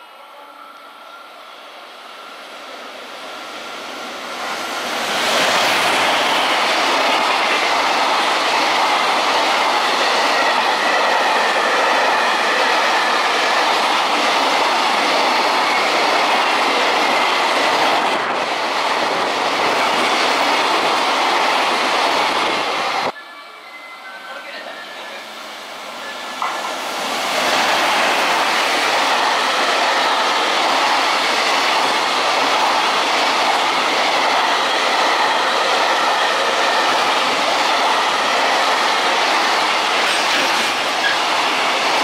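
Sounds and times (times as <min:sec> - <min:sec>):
freight train passing: 0:00.0 - 0:42.0
train wheels on rails: 0:00.9 - 0:23.2, 0:25.0 - 0:42.0.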